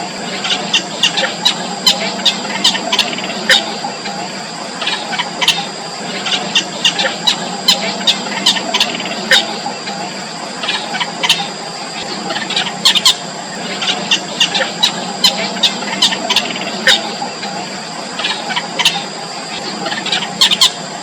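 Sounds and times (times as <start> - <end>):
steady high-pitched tone: 0.0 - 21.0
bird chicks squeaky calls: 0.4 - 4.2, 4.8 - 9.6, 10.6 - 17.2, 18.2 - 20.8.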